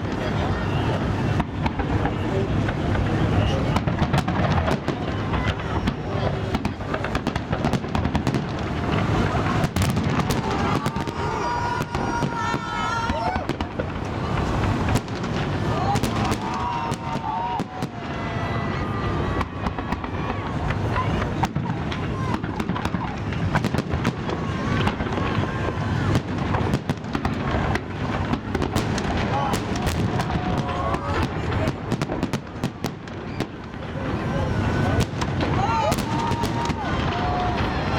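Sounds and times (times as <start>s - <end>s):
fireworks bangs and crackles: 0.0s - 37.9s
people's voices: 0.0s - 37.9s.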